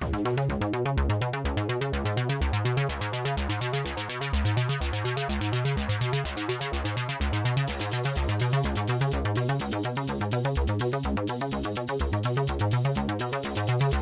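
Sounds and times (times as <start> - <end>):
electronic music: 0.0 - 14.0.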